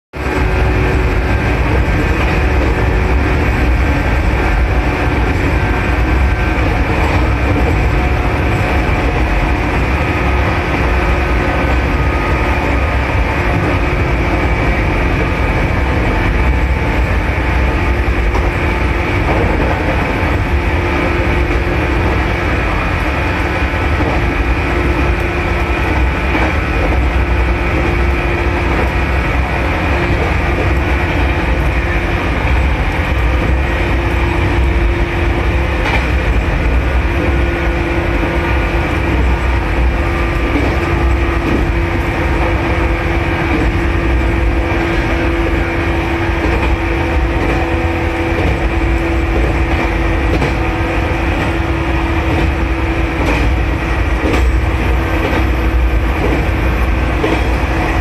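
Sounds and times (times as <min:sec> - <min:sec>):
train wheels rumbling on track: 0:00.1 - 0:58.0.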